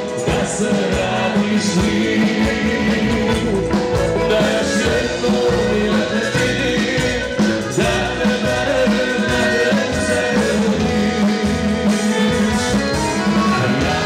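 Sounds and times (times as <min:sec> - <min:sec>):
man singing: 0:00.0 - 0:11.4, 0:13.1 - 0:14.0
live band playing dance music: 0:00.0 - 0:14.0.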